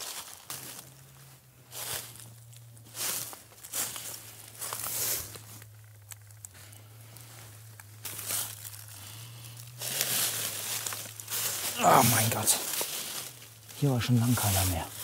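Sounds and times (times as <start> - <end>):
dry leaves and twigs crunching: 0.0 - 15.0
faint low hum: 0.1 - 15.0.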